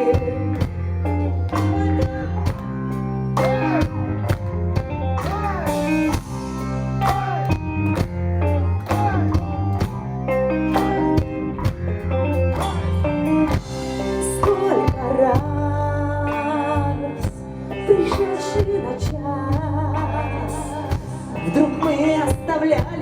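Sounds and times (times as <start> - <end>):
lead guitar sliding melody: 0.0 - 23.0
live rock band playing: 0.0 - 23.0.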